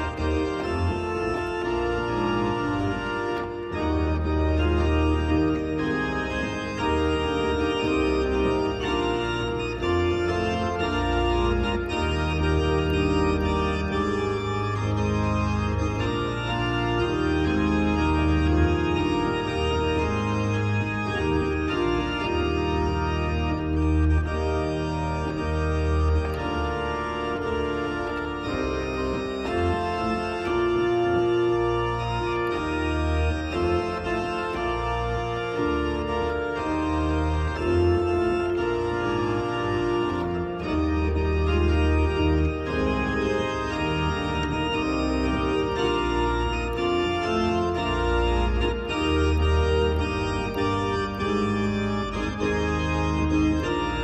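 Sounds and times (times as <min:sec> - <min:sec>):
organ playing hymn chords: 0:00.0 - 0:54.0.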